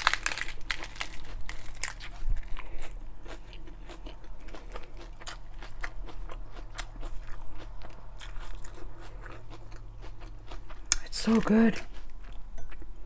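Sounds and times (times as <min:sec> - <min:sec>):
lettuce crunching while chewed: 0:00.0 - 0:12.9.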